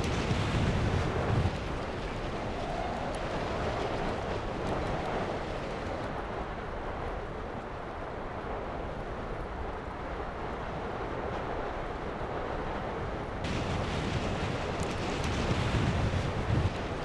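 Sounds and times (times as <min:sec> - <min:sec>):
volcano rushing roar: 0:00.0 - 0:17.0
wind: 0:00.0 - 0:17.0.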